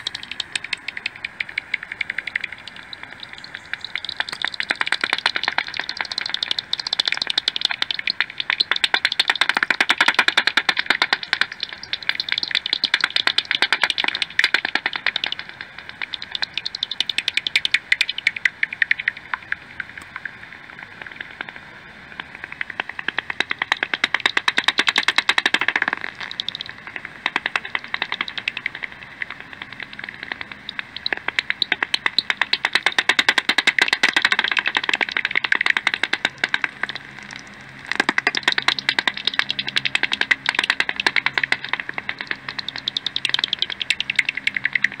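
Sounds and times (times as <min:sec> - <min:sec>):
bat echolocation clicks: 0:00.0 - 0:21.6, 0:22.2 - 0:45.0.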